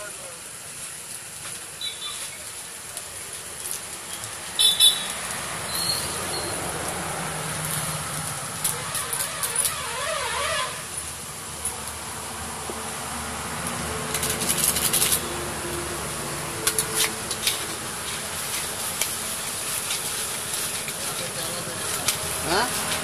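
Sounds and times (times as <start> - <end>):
hot oil sizzling in a wok: 0.0 - 23.0
loud crackling in oil: 0.0 - 23.0.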